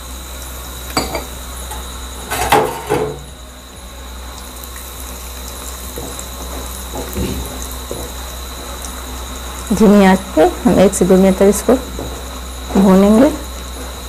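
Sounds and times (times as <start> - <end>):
peanuts sizzling in hot oil: 0.0 - 14.0.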